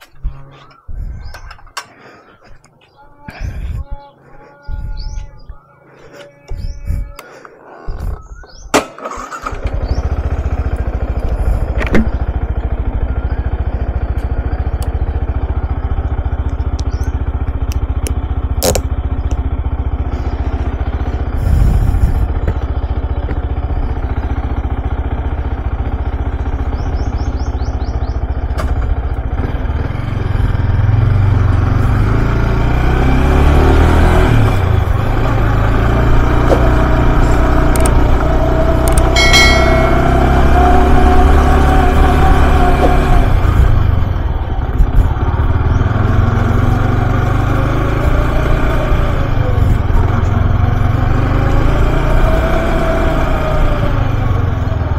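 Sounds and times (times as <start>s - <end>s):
motorcycle engine starting and idling: 0.0s - 54.9s
motorcycle revving: 0.0s - 54.9s.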